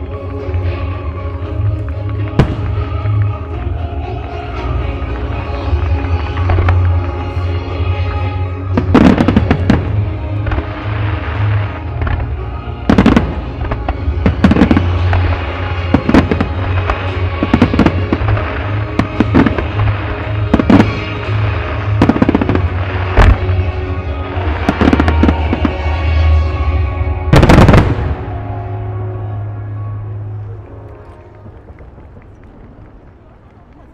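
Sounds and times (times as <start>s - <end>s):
fireworks bursting: 0.0s - 29.0s
music playing: 0.0s - 33.7s.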